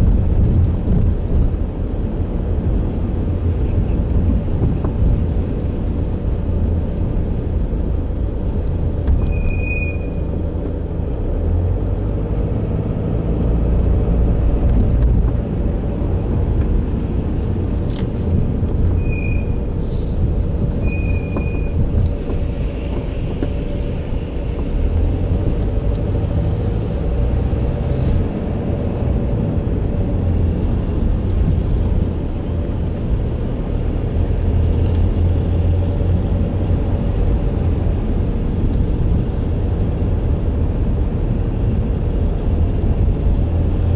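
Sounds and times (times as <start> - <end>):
car driving rumble: 0.0 - 43.9.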